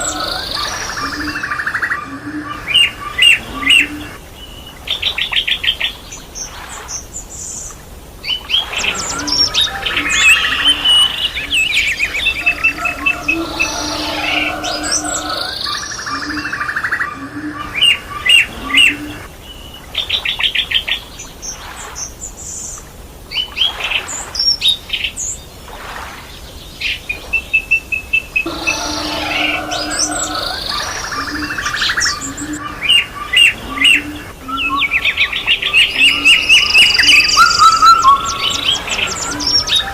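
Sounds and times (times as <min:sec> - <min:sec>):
birds chirping and trilling: 0:00.0 - 0:25.6, 0:26.3 - 0:39.9.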